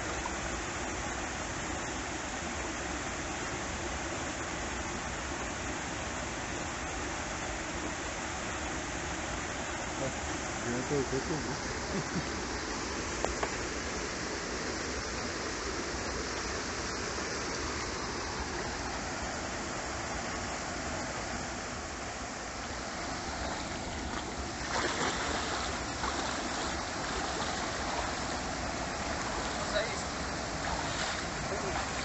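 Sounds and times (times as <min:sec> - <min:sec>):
creek and cascade rushing: 0:00.0 - 0:32.0.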